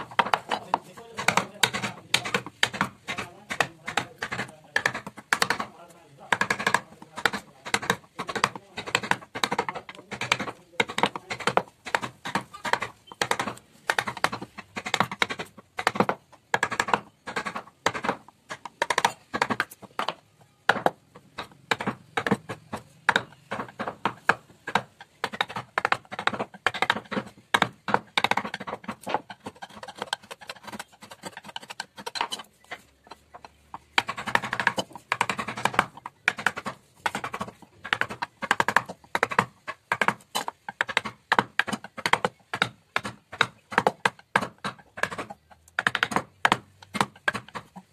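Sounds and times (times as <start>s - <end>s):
mallet tapping chisel into wood: 0.0s - 47.9s.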